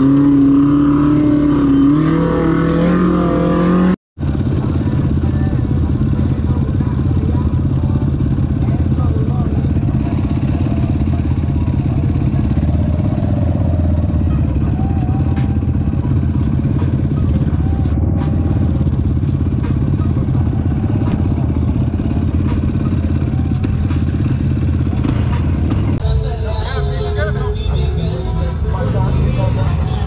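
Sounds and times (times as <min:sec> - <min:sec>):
off-road vehicle engine droning: 0:00.0 - 0:30.0.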